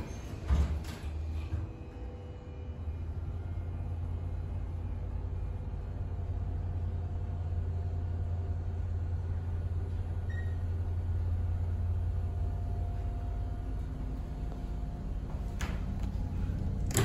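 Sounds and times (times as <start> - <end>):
elevator car humming: 0.0 - 17.0.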